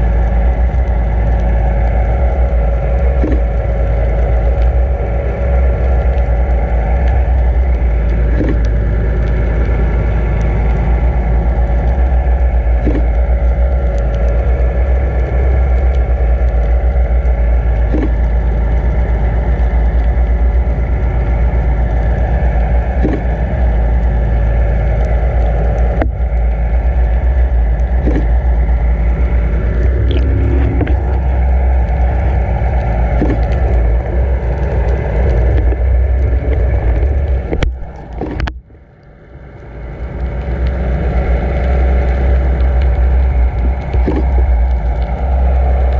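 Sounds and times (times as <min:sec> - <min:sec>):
boat engine hum underwater: 0:00.0 - 0:45.9
faint ticks: 0:00.0 - 0:45.9
underwater water rushing: 0:00.0 - 0:45.9.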